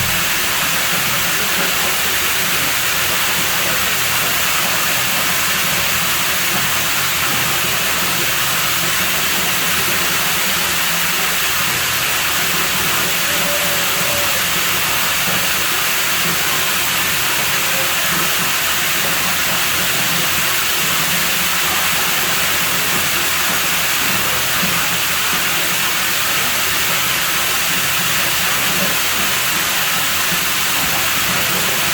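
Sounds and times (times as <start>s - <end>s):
water running: 0.0s - 31.9s.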